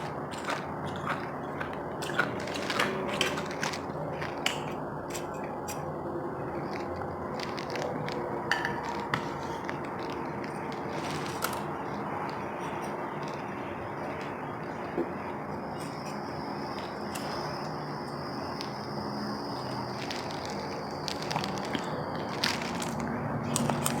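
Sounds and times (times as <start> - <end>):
ice crunching while chewing: 0.0 - 24.0.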